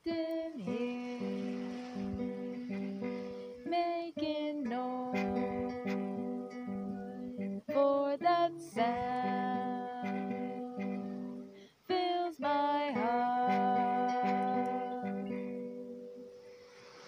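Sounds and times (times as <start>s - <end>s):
acoustic guitar strummed: 0.0s - 11.6s, 12.9s - 16.6s
woman singing wordless notes: 0.0s - 16.4s.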